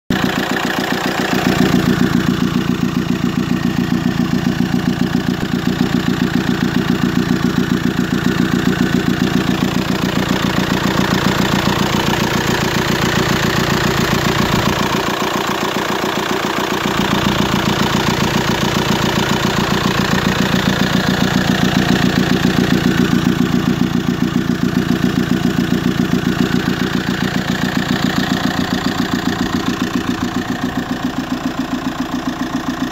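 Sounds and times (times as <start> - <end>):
diesel engine idling: 0.1 - 32.9.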